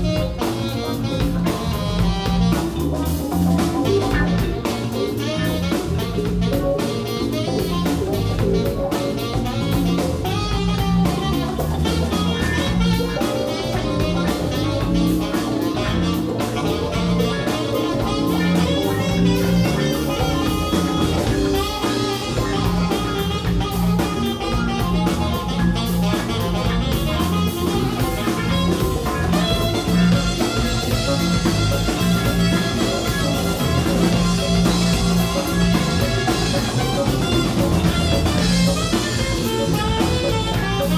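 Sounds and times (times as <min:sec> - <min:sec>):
alto saxophone: 0:00.0 - 0:40.9
live blues jazz band: 0:00.0 - 0:40.9.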